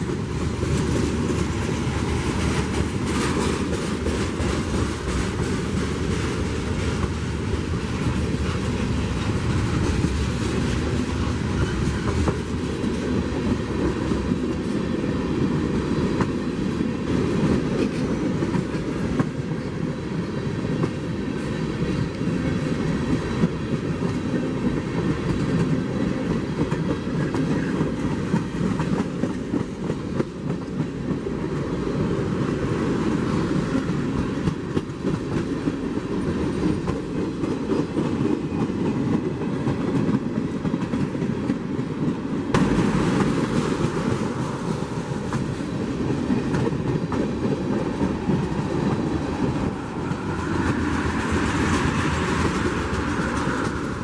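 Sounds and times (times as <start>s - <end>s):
train wheels clacking on rails: 0.0s - 54.0s.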